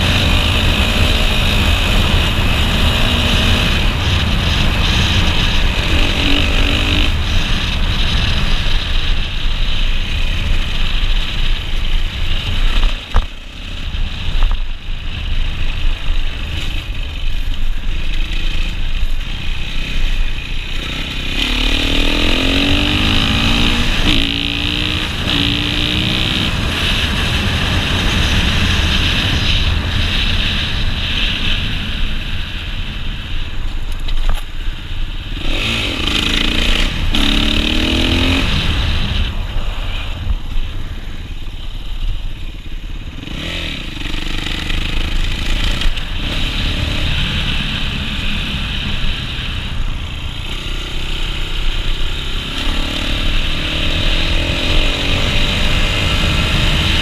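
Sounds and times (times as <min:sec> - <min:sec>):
dirt bike engine revving: 0:00.0 - 0:32.0, 0:35.2 - 0:40.2, 0:43.0 - 0:57.0.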